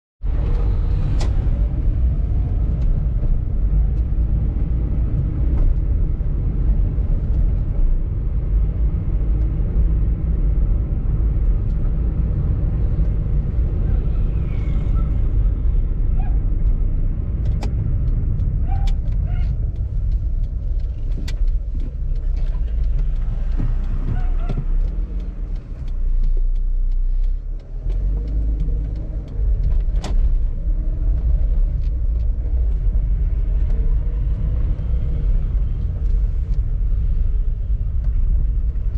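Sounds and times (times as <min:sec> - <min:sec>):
car driving rumble: 0:00.2 - 0:38.9.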